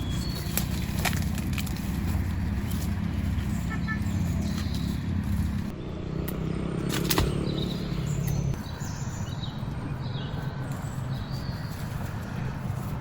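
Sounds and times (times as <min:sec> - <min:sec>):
bird chirps: 0:00.0 - 0:01.0, 0:02.2 - 0:13.0.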